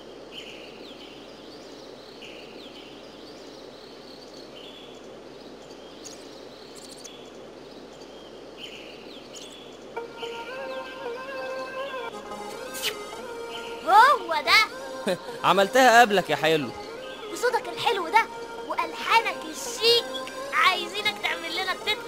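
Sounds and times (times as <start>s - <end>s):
steady hiss: 0.0s - 10.4s, 12.1s - 22.0s.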